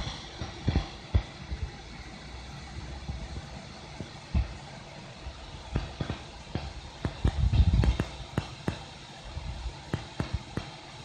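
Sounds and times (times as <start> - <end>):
cooling fan humming: 0.0 - 11.0.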